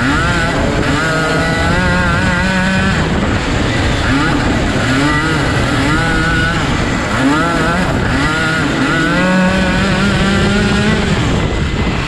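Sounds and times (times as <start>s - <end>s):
kart engine revving: 0.0s - 12.0s
other kart engines: 0.0s - 12.0s
steady rush of noise: 0.0s - 12.0s.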